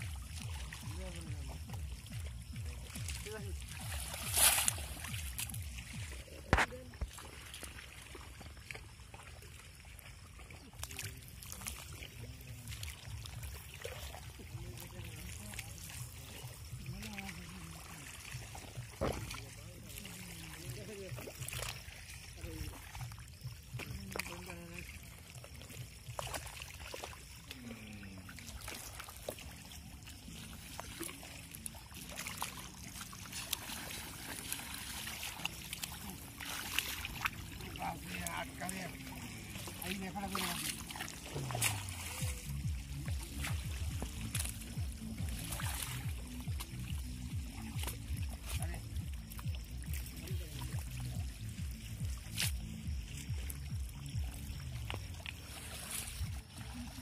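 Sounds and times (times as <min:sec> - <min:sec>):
fish splashing in water: 0:00.0 - 0:57.0.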